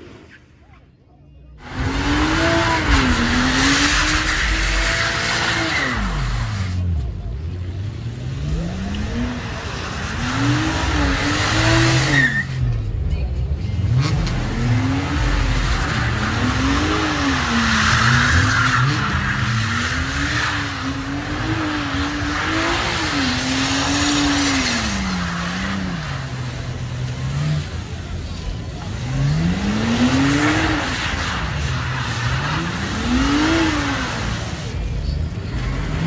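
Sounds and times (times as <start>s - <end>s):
car engine revving: 1.6s - 12.9s, 13.7s - 36.0s.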